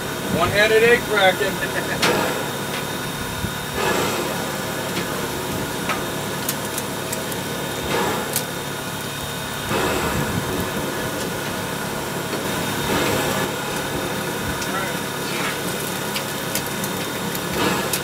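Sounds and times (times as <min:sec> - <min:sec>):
rush of fire and steam: 0:00.0 - 0:18.0.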